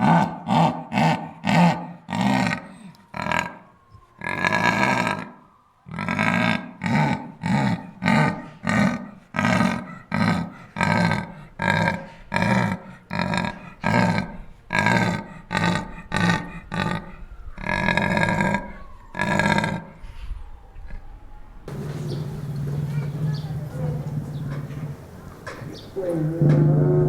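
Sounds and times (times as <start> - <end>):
lion grunting: 0.0 - 20.0, 21.7 - 27.0
lion roaring: 0.0 - 20.0, 21.7 - 27.0.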